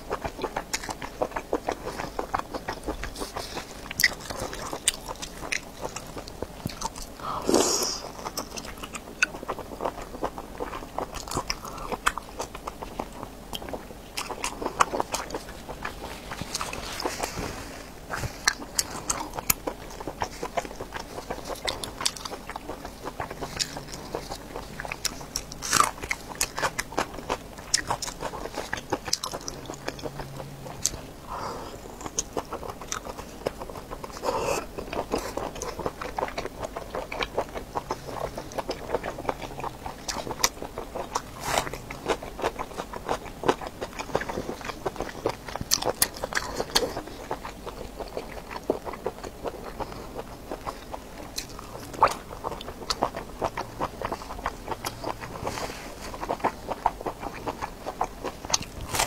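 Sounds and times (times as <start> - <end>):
biting and chewing sausage: 0.0 - 59.0.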